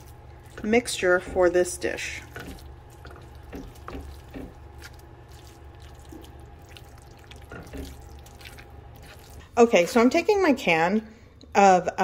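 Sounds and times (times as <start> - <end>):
spoon stirring thick filling: 0.0 - 10.5.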